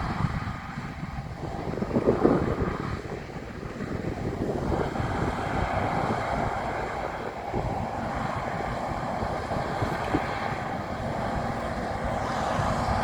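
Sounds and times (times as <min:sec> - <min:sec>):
distant combine harvester hum: 0:00.0 - 0:13.0
wind buffeting microphone: 0:00.0 - 0:13.0.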